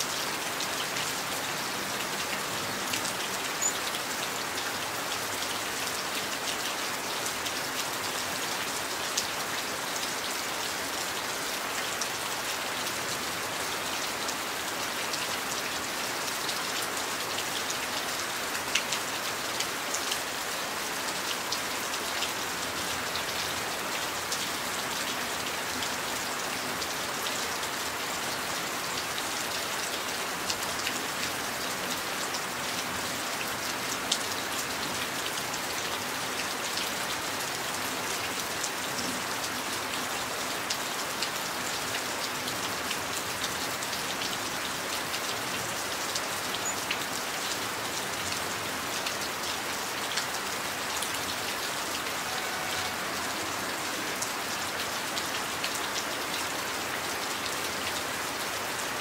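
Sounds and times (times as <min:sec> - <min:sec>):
steady rain: 0:00.0 - 0:59.0
sharp raindrops striking nearby: 0:00.1 - 0:58.8.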